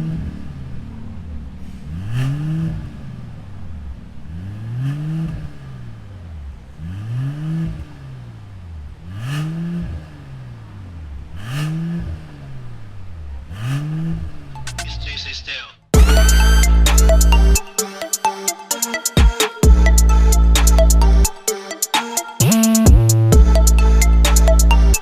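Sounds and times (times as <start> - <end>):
car engine revving: 0.0 - 19.0, 19.6 - 25.0.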